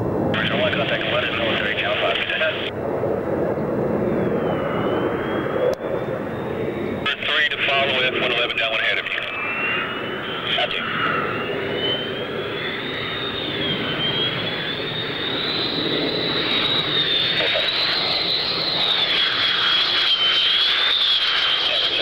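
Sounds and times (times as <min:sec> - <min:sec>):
jet engines whining and roaring: 0:00.0 - 0:22.0.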